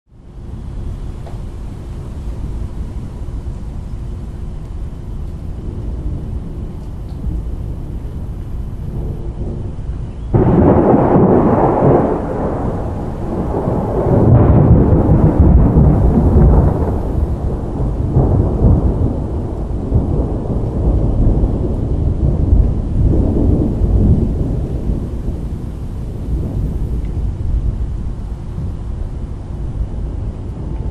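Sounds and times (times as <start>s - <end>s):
storm noise: 0.1s - 30.9s
deep thunder rumbles: 0.3s - 30.9s
thunder crack: 5.4s - 30.9s.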